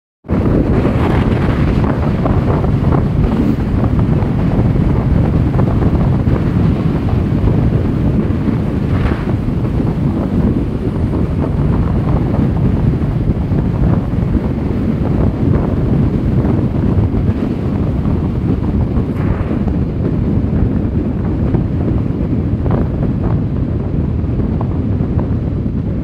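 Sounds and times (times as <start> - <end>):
wind buffeting microphone: 0.2 - 26.0.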